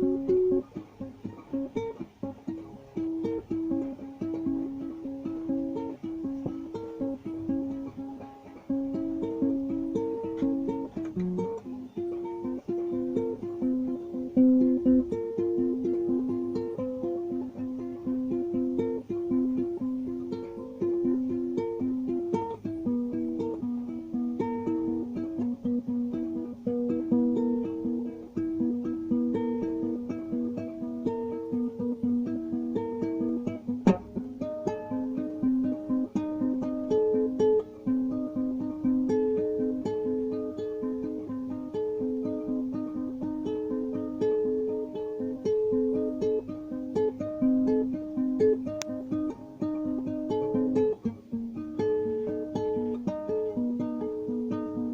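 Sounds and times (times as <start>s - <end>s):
plucked guitar melody: 0.0s - 54.9s.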